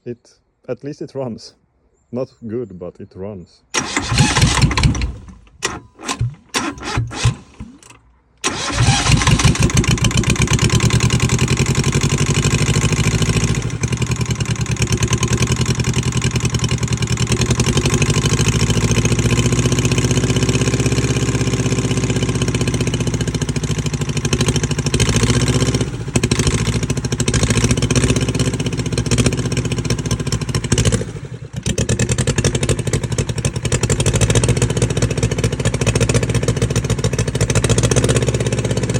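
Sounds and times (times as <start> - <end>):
diesel engine sputtering unevenly: 3.8 - 38.9.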